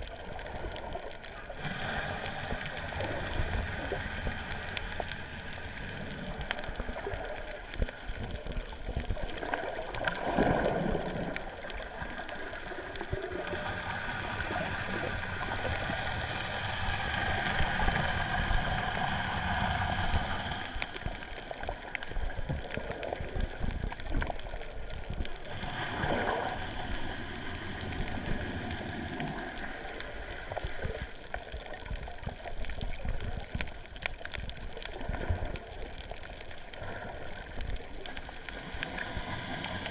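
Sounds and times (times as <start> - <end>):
muffled underwater water wash: 0.0 - 39.9.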